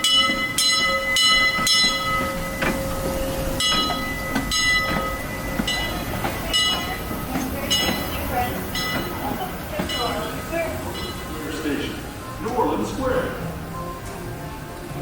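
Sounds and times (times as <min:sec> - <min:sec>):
steam locomotive bell ringing: 0:00.0 - 0:14.4
train rumble and hiss: 0:00.0 - 0:15.0.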